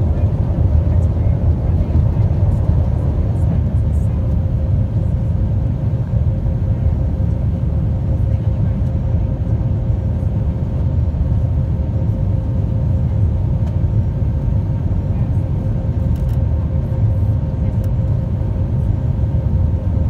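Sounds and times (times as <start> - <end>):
airliner engines low rumble: 0.0 - 20.0.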